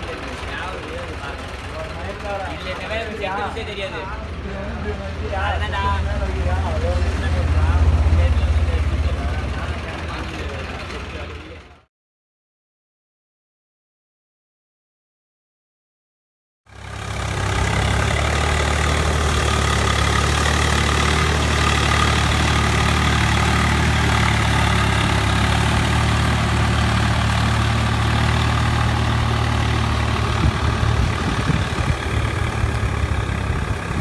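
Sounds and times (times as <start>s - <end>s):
tractor diesel engine running: 0.0s - 11.9s, 16.7s - 34.0s.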